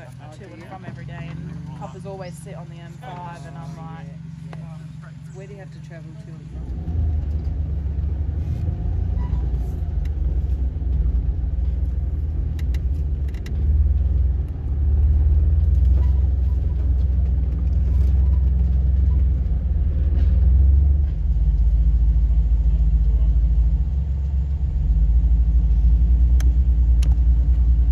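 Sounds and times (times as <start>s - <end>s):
engine rumble inside vehicle cab: 0.0s - 27.9s.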